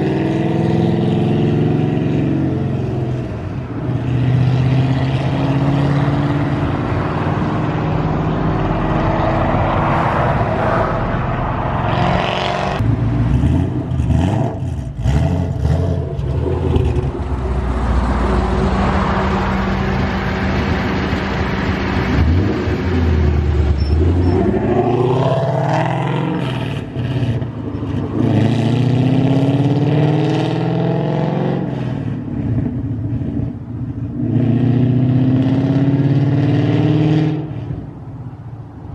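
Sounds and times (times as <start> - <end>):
car engine revving: 3.8 - 37.7.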